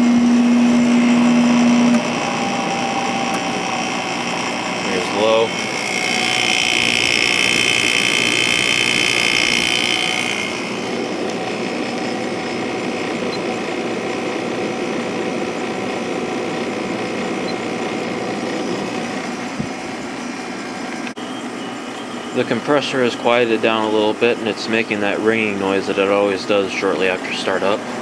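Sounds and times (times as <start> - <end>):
air conditioner hum and fan: 0.0 - 28.0.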